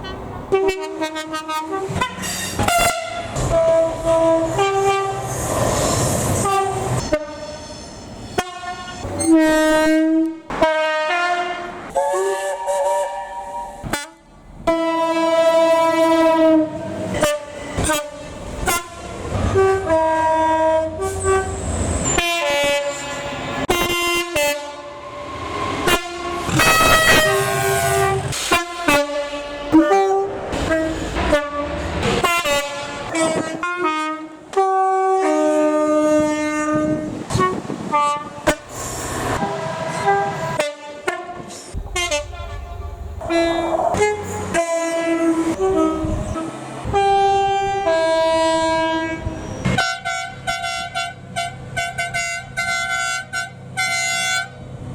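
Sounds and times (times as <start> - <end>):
multi-tone train horn blasts: 0.0 - 5.3, 6.4 - 7.7, 8.4 - 54.6.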